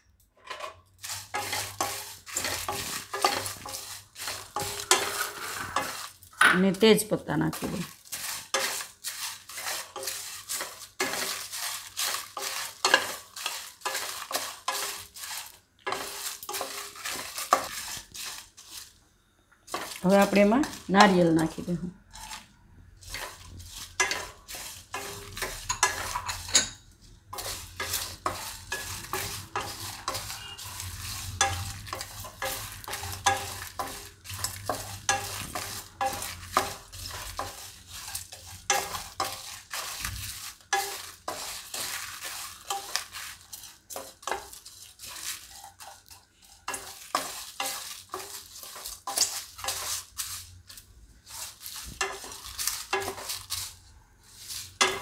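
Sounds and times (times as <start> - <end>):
spatula scraping dry spices in a pan: 0.5 - 19.1, 19.7 - 55.0.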